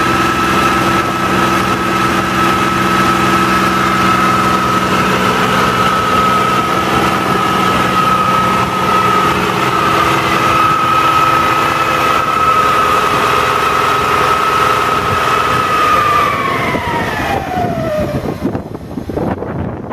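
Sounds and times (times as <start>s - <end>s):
high-pitched whine: 0.0s - 19.0s
diesel engine running: 0.0s - 19.4s.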